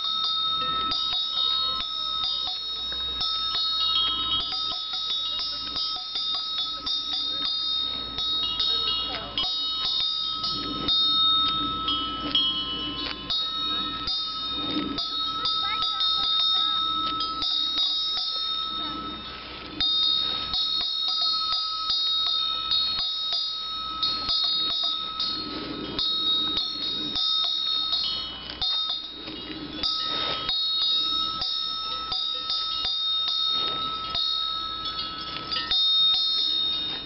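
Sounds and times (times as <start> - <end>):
cow eating crunch: 0.0 - 37.0
cowbell clanking: 0.0 - 37.0
steady high ringing tone: 0.0 - 37.0.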